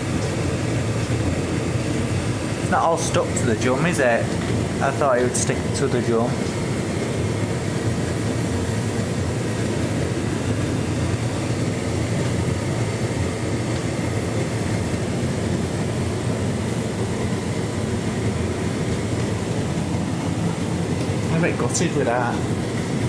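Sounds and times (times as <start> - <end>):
tumble dryer drum rumbling: 0.0 - 23.0.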